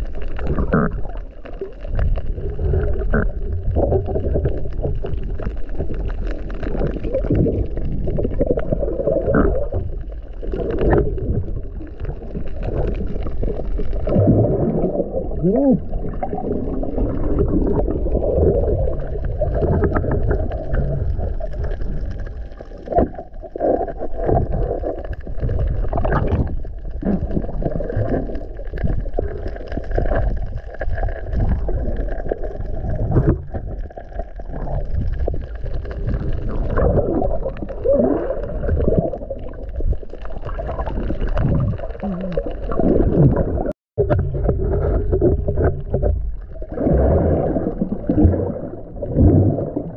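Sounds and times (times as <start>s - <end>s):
underwater bubbling and gurgling: 0.0s - 49.9s
underwater rumble: 0.0s - 49.9s.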